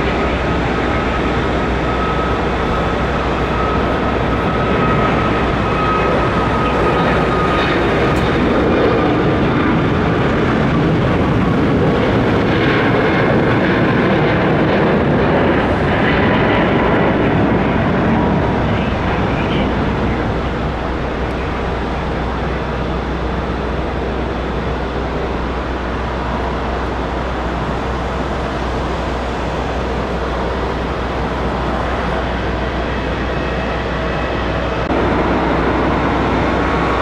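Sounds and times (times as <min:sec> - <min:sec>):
jet engines at takeoff: 0:00.0 - 0:37.0.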